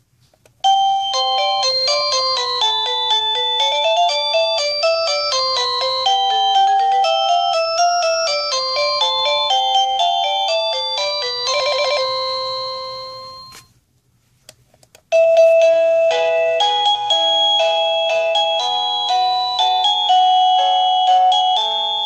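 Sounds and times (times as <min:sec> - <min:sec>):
electronic doorbell chime melodies: 0:00.6 - 0:13.7, 0:15.1 - 0:22.0.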